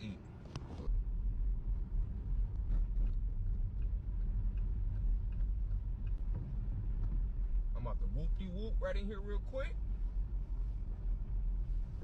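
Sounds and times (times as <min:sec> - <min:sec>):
road and engine noise in car cabin: 0:00.0 - 0:12.0.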